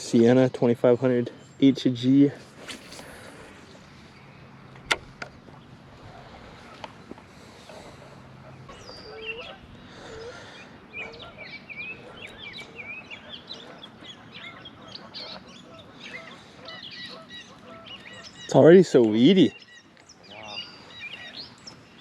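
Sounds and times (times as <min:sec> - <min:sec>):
birds chirping: 0:00.0 - 0:22.0
lower bird calls: 0:00.1 - 0:22.0.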